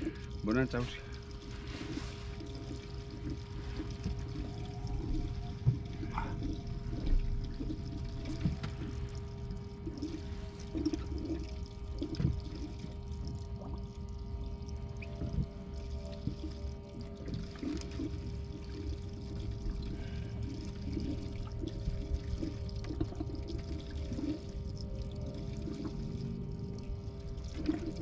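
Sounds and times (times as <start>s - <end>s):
steady low hum: 0.0s - 28.0s
water pouring and sloshing: 0.0s - 28.0s.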